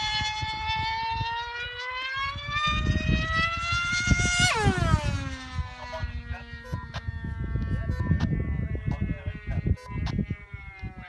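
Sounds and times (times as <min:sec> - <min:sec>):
model plane engine whining: 0:00.0 - 0:11.0
wind buffeting microphone: 0:00.0 - 0:11.0.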